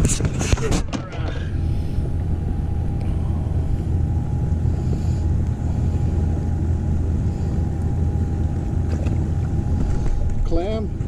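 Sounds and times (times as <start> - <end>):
boat engine humming: 0.0 - 11.0
faint steady whine: 0.0 - 11.0.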